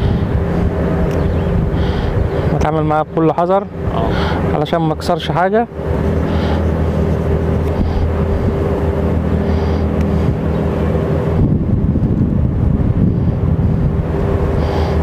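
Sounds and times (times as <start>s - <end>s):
wind buffeting microphone: 0.0s - 4.8s, 5.7s - 15.0s
low engine drone: 0.0s - 15.0s
steady tones: 0.0s - 15.0s.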